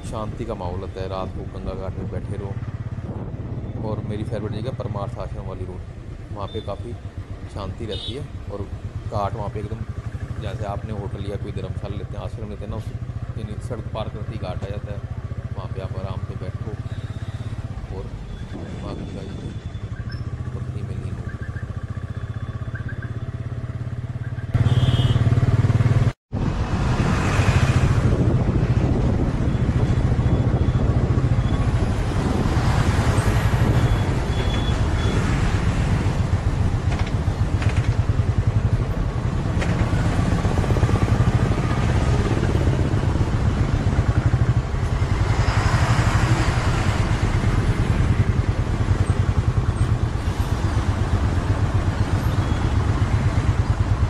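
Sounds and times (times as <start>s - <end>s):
motorcycle engine running: 5.9s - 17.9s, 18.6s - 26.2s, 28.0s - 54.0s.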